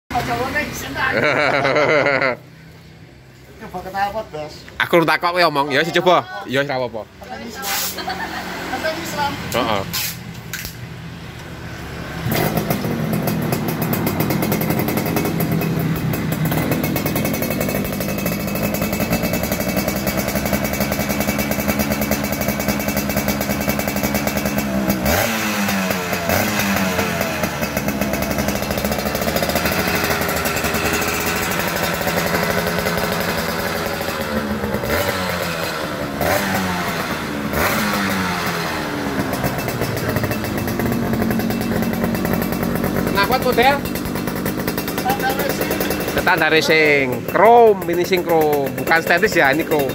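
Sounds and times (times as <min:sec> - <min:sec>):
two-stroke motorcycle engine revving: 0:00.1 - 0:02.4, 0:06.9 - 0:10.7, 0:11.3 - 0:49.9.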